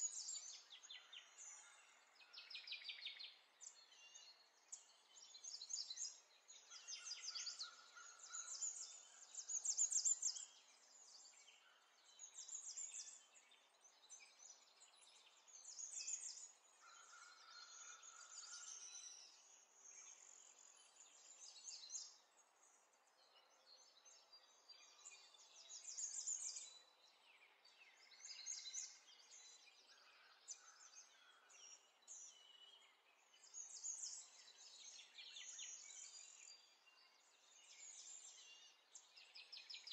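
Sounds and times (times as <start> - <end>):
faint birdsong trills: 0.0 - 39.9.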